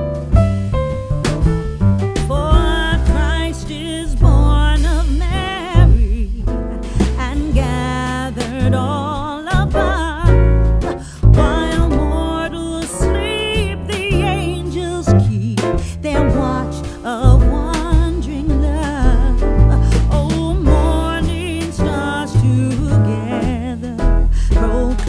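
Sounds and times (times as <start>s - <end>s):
loud bass line and beat: 0.0s - 25.0s.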